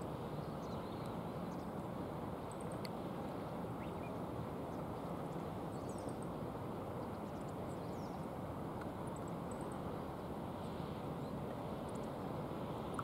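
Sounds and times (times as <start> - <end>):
river water over stones: 0.0 - 13.0.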